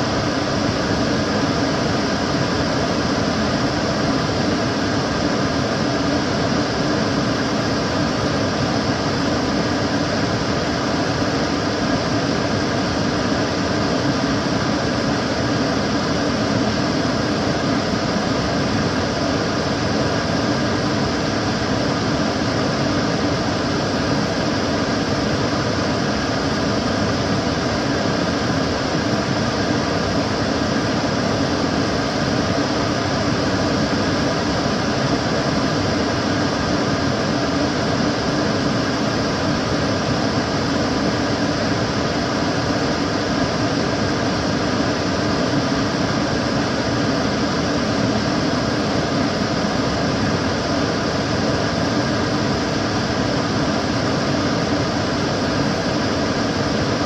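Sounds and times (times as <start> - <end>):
extractor fan running: 0.0 - 57.0.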